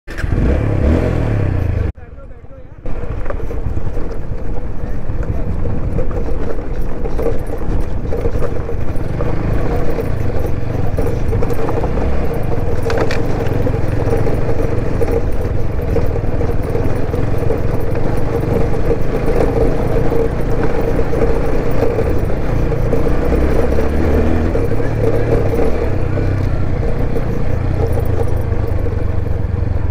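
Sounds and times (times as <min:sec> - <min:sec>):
motorcycle engine running: 0:00.1 - 0:29.9.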